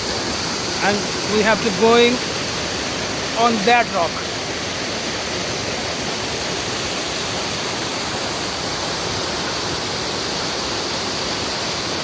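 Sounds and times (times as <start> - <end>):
mountain stream and waterfall rushing: 0.0 - 12.0.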